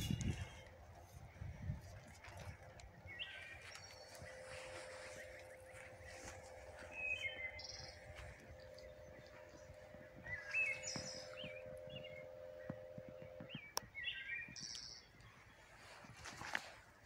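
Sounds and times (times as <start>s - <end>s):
birds chirping and whistling: 0.0s - 16.7s
steady low hum: 0.0s - 17.0s.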